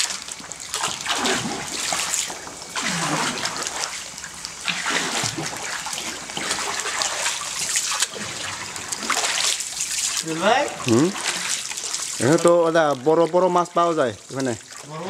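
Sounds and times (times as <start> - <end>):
water splashing around a raft: 0.0 - 15.0.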